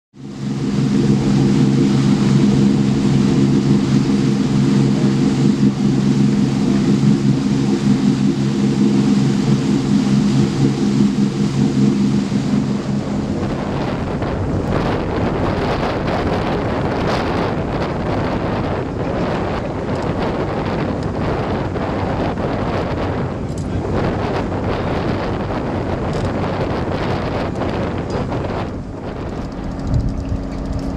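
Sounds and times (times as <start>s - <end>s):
boat engine droning: 0.2s - 30.9s
water noise: 0.2s - 30.9s
wind buffeting microphone: 0.3s - 30.9s.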